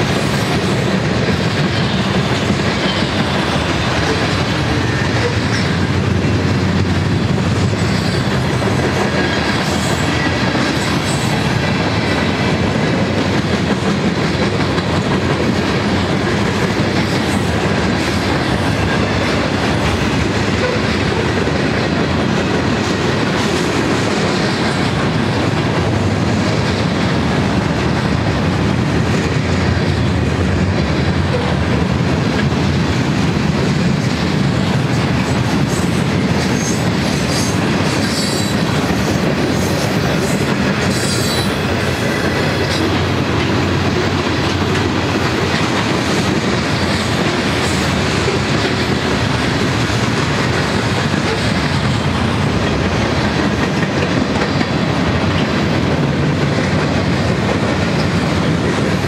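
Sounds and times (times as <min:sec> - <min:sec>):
train wheels clattering over rail: 0:00.0 - 0:59.0.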